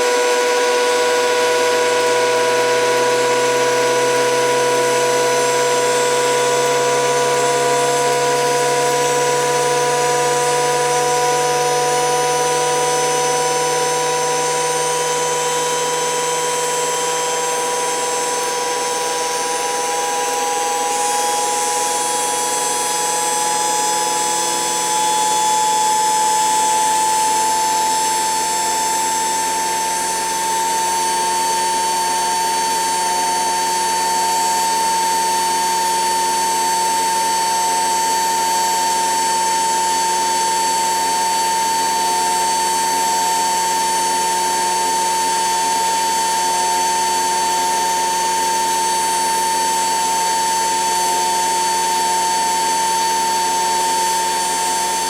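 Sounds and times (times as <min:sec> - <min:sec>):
motor whine rising in pitch: 0:00.0 - 0:55.0.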